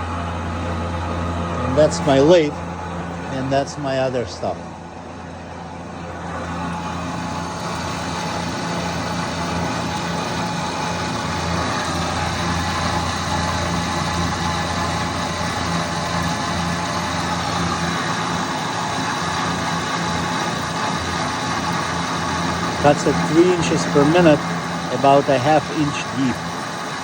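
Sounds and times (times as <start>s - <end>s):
milling machine spindle humming: 0.0s - 27.0s.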